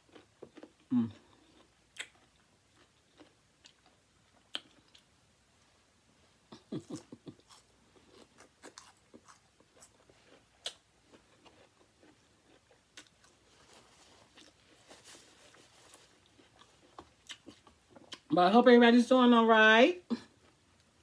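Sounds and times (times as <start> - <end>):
chewing crispy chicken: 0.0 - 5.2, 6.5 - 18.3.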